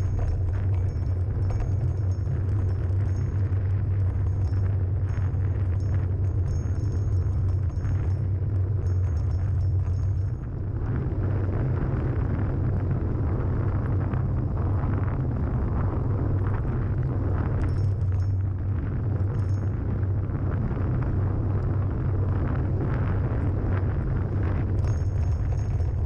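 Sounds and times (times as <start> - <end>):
wheels rolling on asphalt: 0.0 - 26.0
wind buffeting microphone: 0.0 - 26.0.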